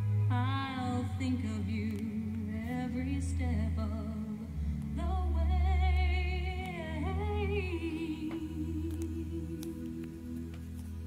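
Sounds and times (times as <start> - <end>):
woman singing wordless melody: 0.0 - 10.6.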